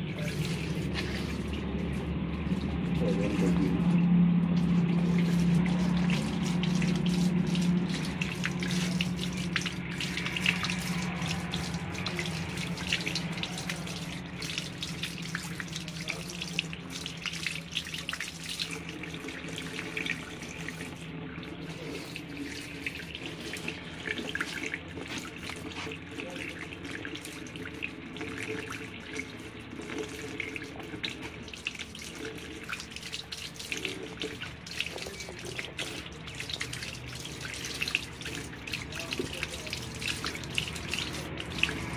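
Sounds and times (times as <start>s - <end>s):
vegetables rubbed under water: 0.0s - 16.6s, 18.1s - 41.9s
tap water splashing into basin: 4.6s - 41.9s.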